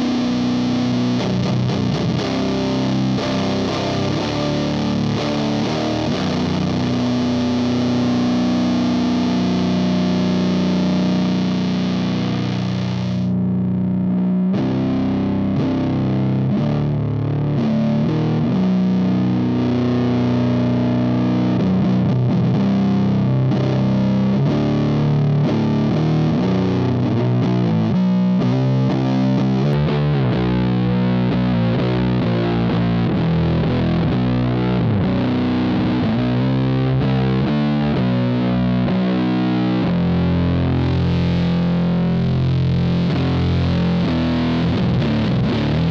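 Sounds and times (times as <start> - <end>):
fuzz electric guitar: 0.0 - 45.9.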